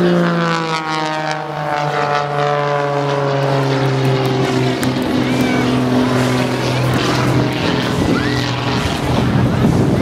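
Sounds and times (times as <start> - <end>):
airplane engine and propeller: 0.0 - 10.0.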